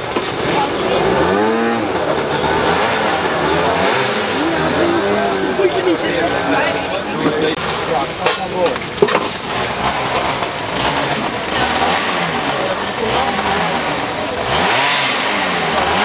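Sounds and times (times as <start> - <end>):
indistinct voices: 0.0 - 16.0
moped engines running: 0.0 - 16.0.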